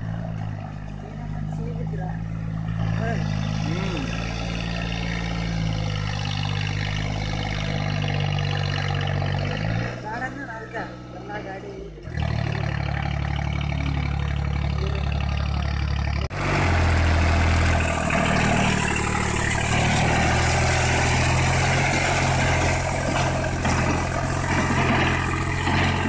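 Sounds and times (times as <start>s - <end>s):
tyres spinning in mud: 0.0s - 10.2s, 12.1s - 26.0s
tractor diesel engine running: 0.0s - 26.0s.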